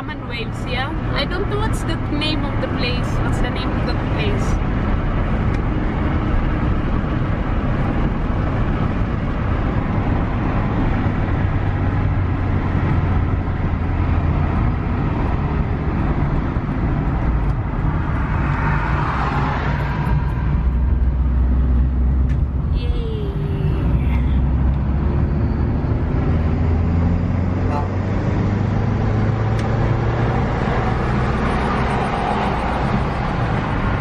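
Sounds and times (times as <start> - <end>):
low engine hum: 0.0 - 34.0.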